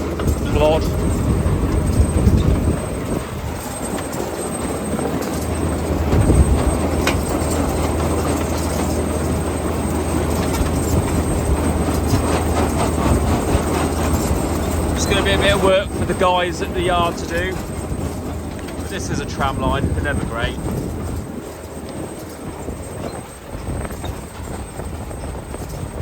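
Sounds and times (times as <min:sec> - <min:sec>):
harvester engine drone: 0:00.0 - 0:26.0
rattle of conveyors: 0:00.0 - 0:26.0.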